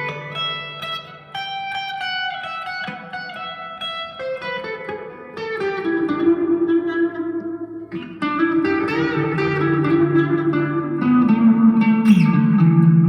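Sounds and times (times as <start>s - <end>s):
electric guitar picked notes: 0.0s - 13.0s.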